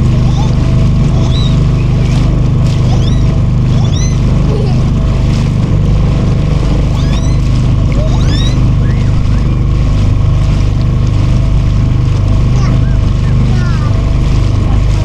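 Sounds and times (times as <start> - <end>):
motorboat engine drone: 0.0 - 15.0.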